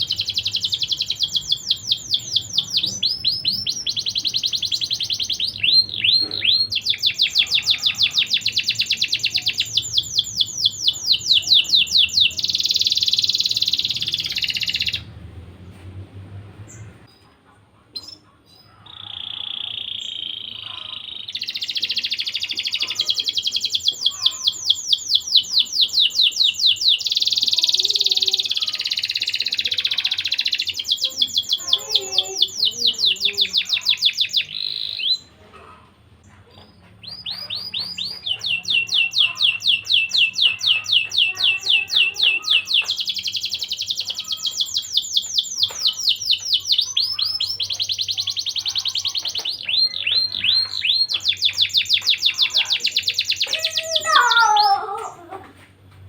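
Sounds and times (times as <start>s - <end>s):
canary singing in trills: 0.0s - 15.1s, 17.9s - 55.4s.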